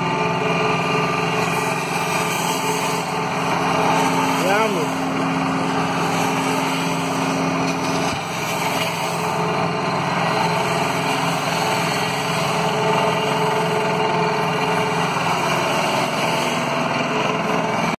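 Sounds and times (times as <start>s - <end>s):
engine noise: 0.0s - 18.0s.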